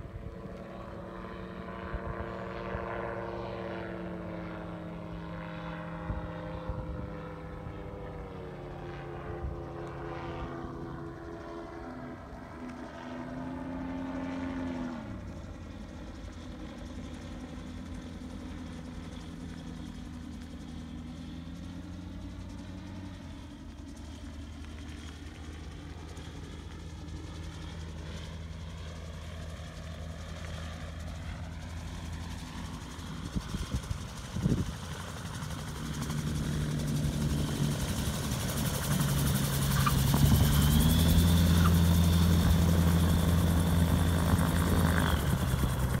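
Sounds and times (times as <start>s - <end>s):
gyroplane engine and rotor: 0.0s - 46.0s.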